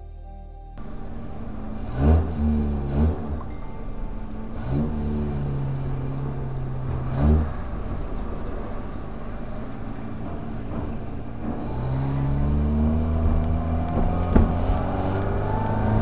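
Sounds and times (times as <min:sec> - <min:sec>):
car engine running and revving: 0:00.8 - 0:16.0.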